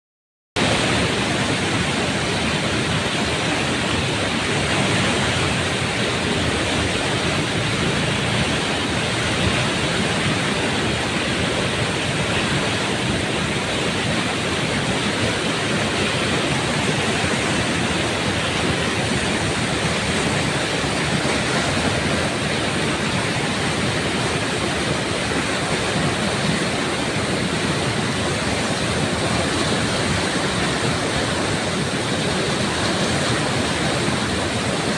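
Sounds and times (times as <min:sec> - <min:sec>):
floodwater rushing: 0:00.6 - 0:34.9.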